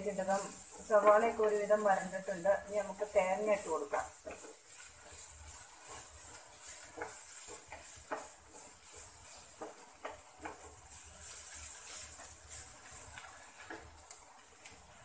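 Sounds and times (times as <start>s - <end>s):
spatula scraping a pan: 0.0s - 14.0s
onions sizzling in a frying pan: 0.0s - 15.0s.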